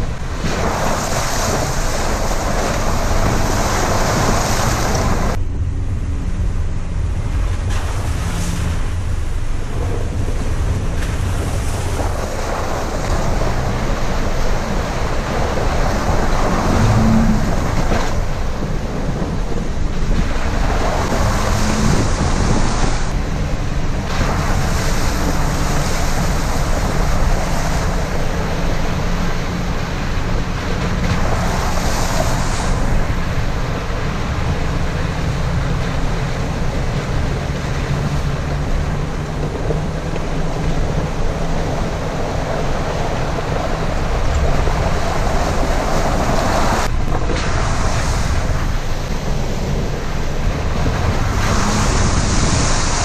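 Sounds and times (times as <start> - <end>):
vehicle driving drone: 0.0 - 53.0
wind buffeting microphone: 0.0 - 53.0.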